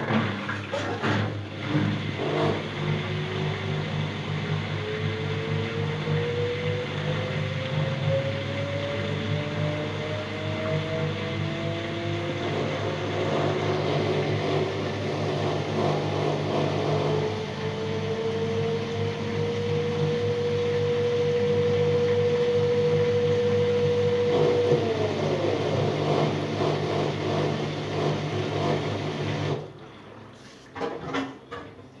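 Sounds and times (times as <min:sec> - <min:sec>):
washing machine running: 0:00.0 - 0:32.0.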